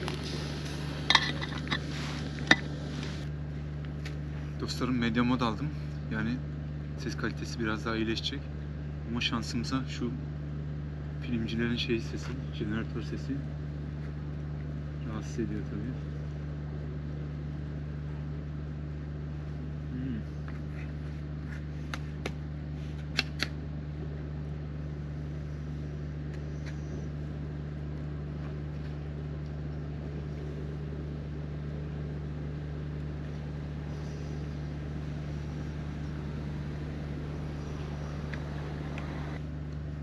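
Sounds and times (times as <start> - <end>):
generator engine running: 0.0 - 40.0.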